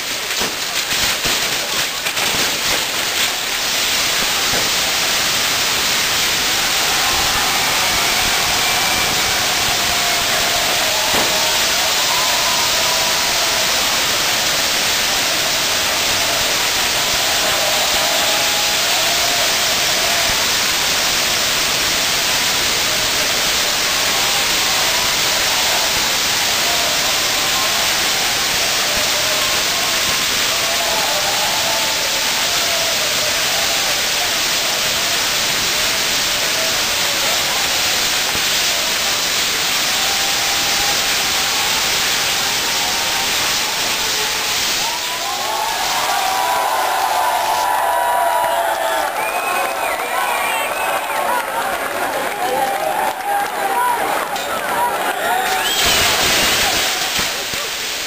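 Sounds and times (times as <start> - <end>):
firework wheel hissing: 0.0 - 51.5, 52.4 - 58.0.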